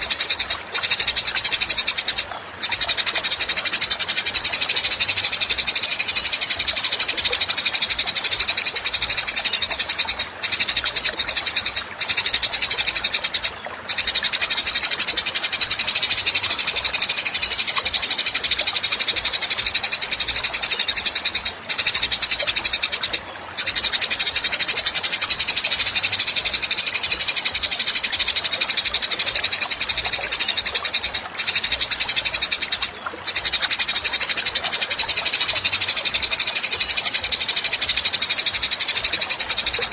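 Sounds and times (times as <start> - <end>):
high pulsing buzzing bird trill: 0.0 - 39.9.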